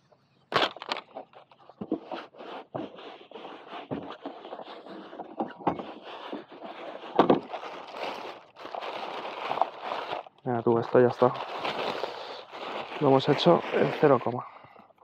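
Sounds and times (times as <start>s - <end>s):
pads scraping on velcro: 0.5s - 14.4s.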